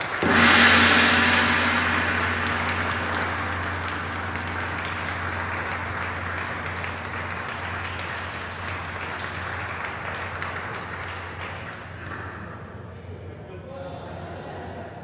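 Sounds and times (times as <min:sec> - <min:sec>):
people applauding: 0:00.0 - 0:12.7
gong ringing: 0:00.0 - 0:13.4.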